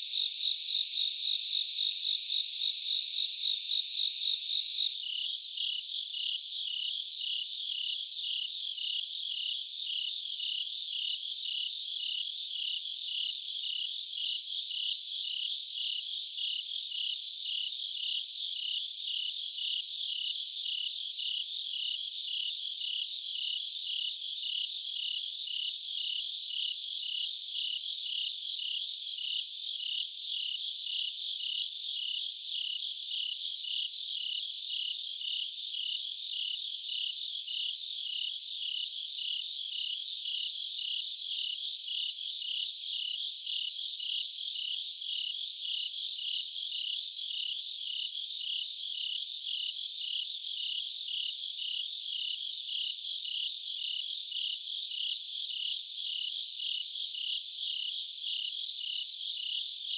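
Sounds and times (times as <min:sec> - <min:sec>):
insect chirping: 0:00.0 - 0:59.9.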